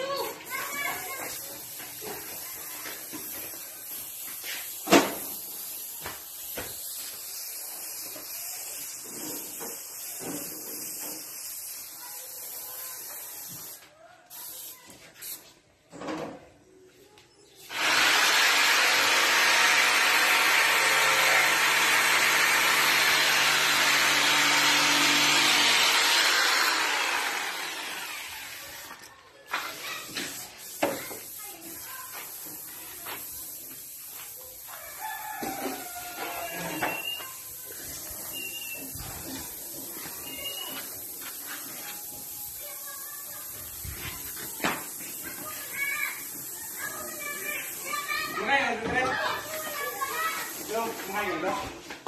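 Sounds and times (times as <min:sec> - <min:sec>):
machine hissing: 0:00.2 - 0:13.8, 0:17.6 - 0:29.1, 0:29.7 - 0:51.4.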